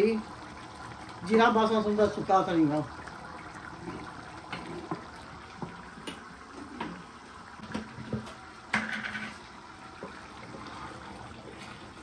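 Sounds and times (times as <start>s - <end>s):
pot cooking hiss: 0.0s - 12.0s.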